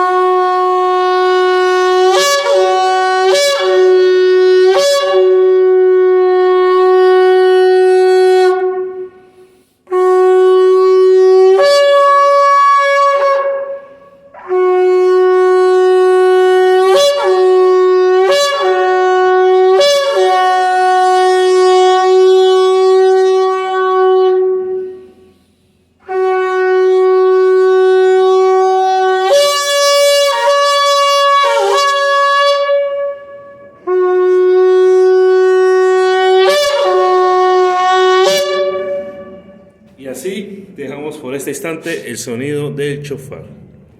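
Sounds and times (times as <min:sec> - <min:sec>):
horn shofar melody: 0:00.0 - 0:40.0.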